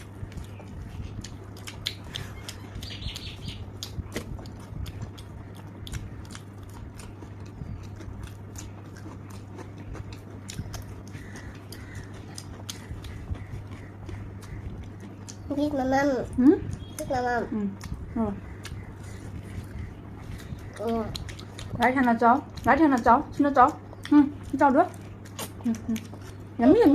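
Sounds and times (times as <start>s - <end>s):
person chewing crunchy food: 0.0s - 15.5s, 17.8s - 26.8s.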